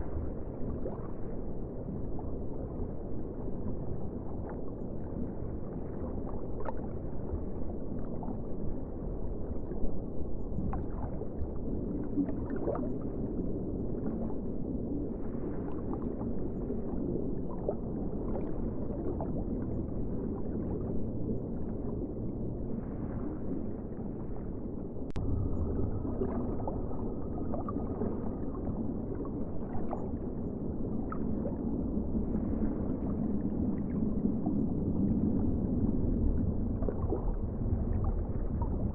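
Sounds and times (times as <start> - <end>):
muffled ocean water rumble: 0.0 - 38.9
water gurgles and clicks: 0.0 - 38.9.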